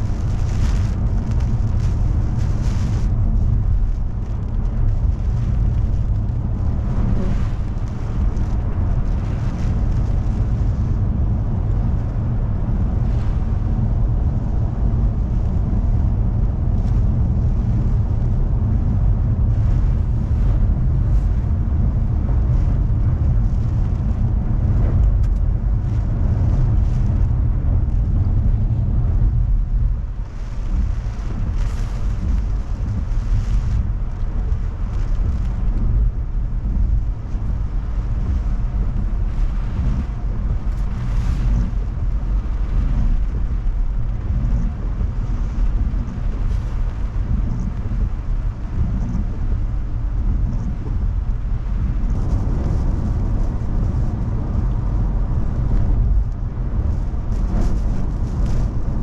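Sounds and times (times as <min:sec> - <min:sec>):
car driving rumble from inside: 0:00.0 - 0:59.0
wind and rain on car: 0:00.0 - 0:59.0.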